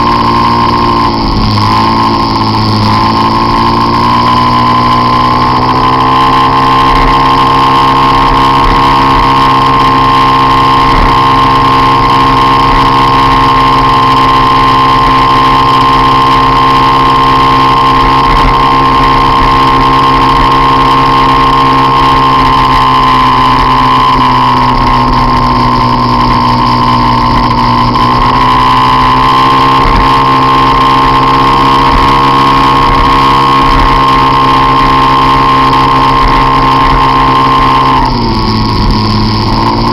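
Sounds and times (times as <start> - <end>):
scooter engine running high: 0.0 - 39.9.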